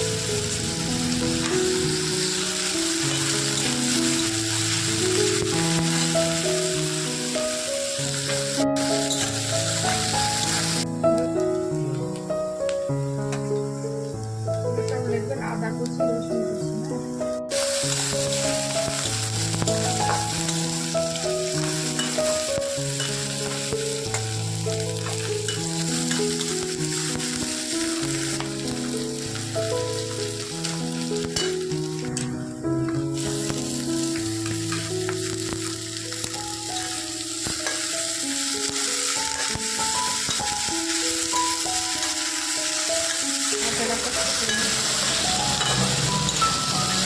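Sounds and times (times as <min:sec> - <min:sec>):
food frying in hot oil: 0:00.0 - 0:47.0
slow melodic background music: 0:00.0 - 0:47.0.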